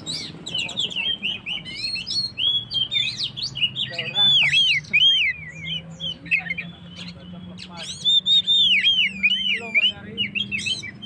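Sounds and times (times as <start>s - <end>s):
bird singing whistled notes: 0.0s - 11.0s.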